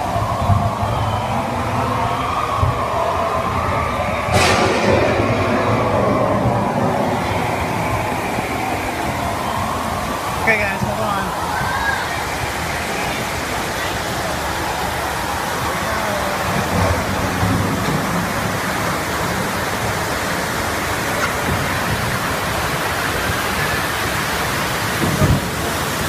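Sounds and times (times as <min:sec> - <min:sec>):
water rushing around boat: 0:00.0 - 0:26.0.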